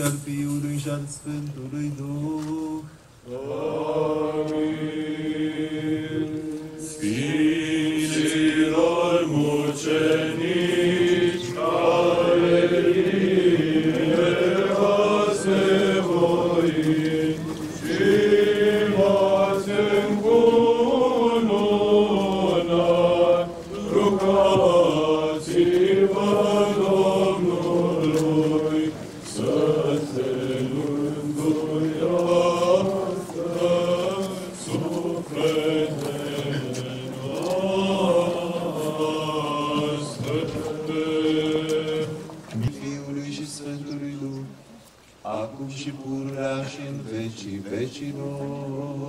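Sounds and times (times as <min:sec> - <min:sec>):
choir chanting unaccompanied: 0:01.8 - 0:49.0.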